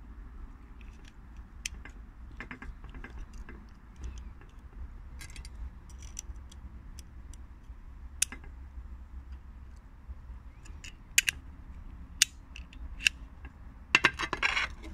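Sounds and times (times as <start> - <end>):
low steady rumble: 0.0 - 14.9.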